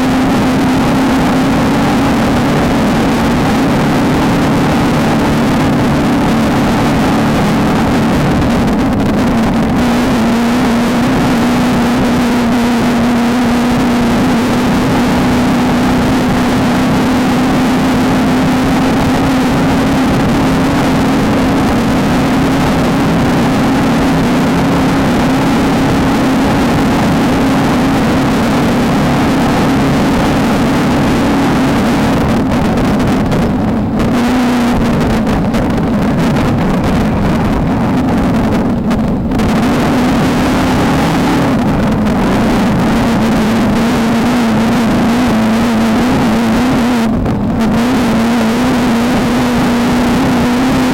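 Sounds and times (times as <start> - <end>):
race car engine at high revs: 0.0 - 50.9
rough terrain noise: 0.0 - 50.9.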